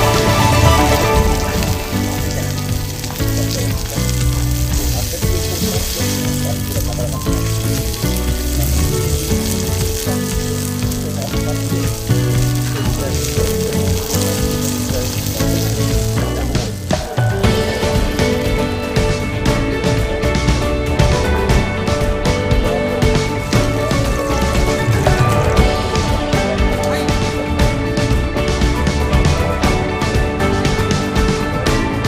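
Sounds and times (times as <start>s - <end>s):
meat sizzling on grill: 0.0s - 31.3s
background music with bass line: 0.0s - 32.0s.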